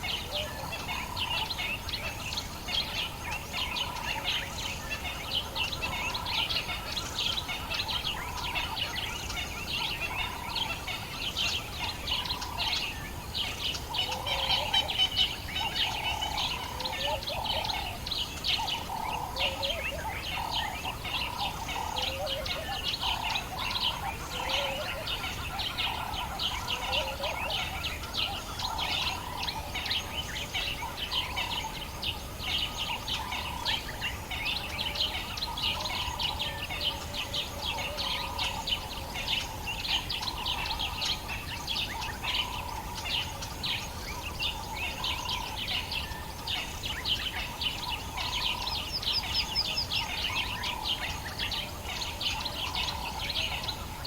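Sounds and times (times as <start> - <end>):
steady low background noise: 0.0 - 54.0
birds chirping: 9.7 - 54.0.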